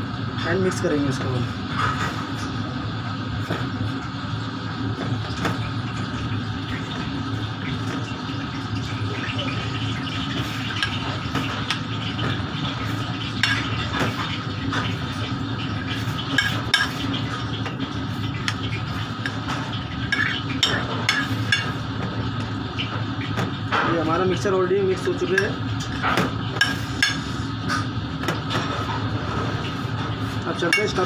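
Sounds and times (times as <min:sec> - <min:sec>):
kitchen equipment hum: 0:00.0 - 0:31.0.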